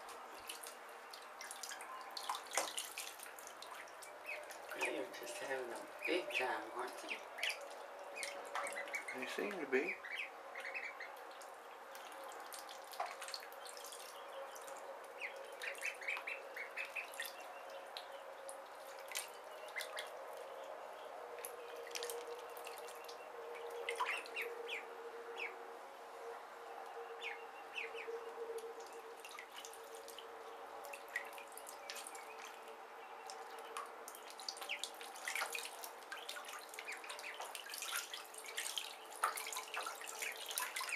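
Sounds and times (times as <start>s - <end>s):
ducklings peeping: 0.0s - 25.6s, 27.2s - 30.2s, 30.9s - 40.9s
small water splashes and drips: 0.0s - 25.7s, 26.7s - 40.9s.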